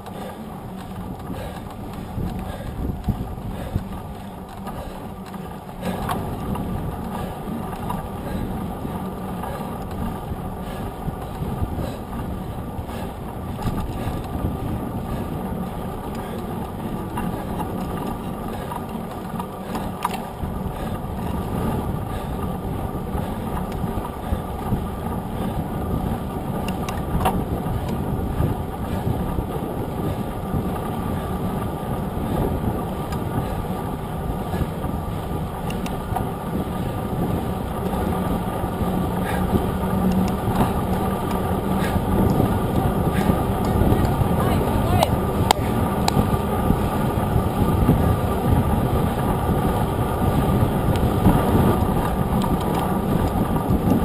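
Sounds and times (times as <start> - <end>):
bike clicks and rattles: 0.0 - 54.0
tyre road noise: 0.0 - 54.0
wind on microphone: 0.0 - 54.0.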